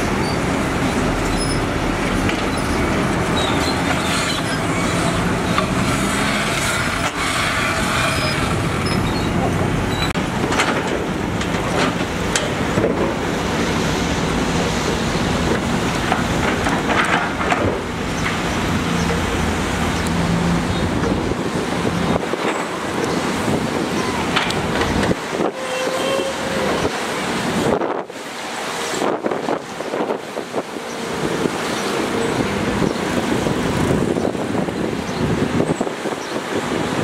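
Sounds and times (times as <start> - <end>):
heavy machinery engines running: 0.0 - 25.6, 26.3 - 37.0.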